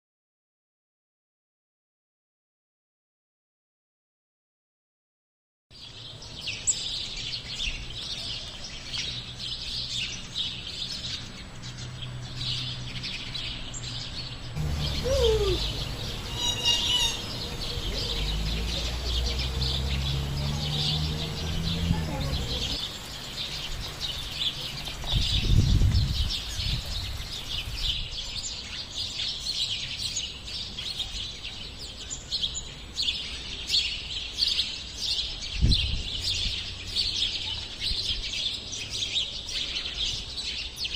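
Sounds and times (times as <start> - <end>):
small birds chirping: 5.7 - 40.9.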